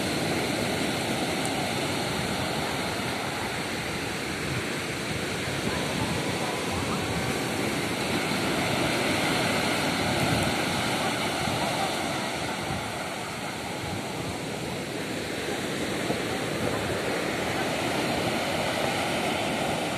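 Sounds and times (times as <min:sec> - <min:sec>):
sea surf breaking on sand: 0:00.0 - 0:19.9.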